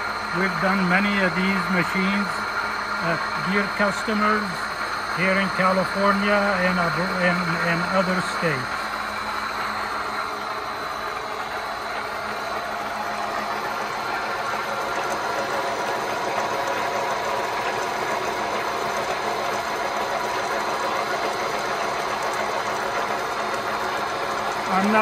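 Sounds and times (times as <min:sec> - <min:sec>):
gear cutting machine whirring: 0:00.0 - 0:25.0.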